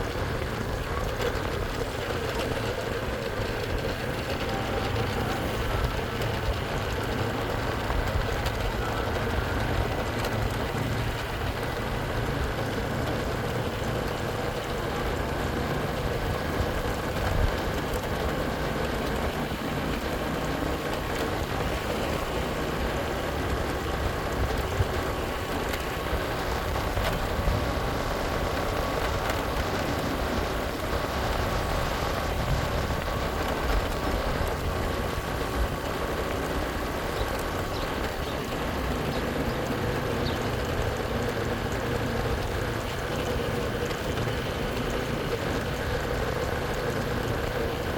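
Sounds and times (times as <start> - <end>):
motorcycle engine hum: 0.0 - 47.9
wind noise on microphone: 0.0 - 47.9.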